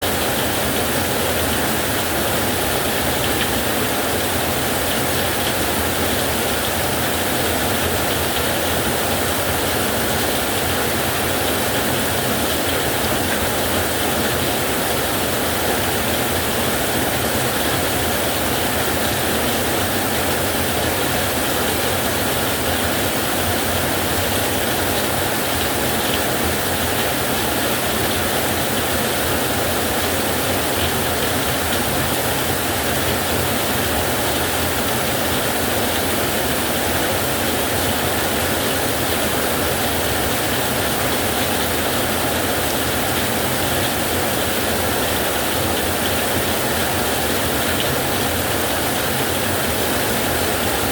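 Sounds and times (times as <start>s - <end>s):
heavy rain on a metal roof: 0.0s - 50.9s.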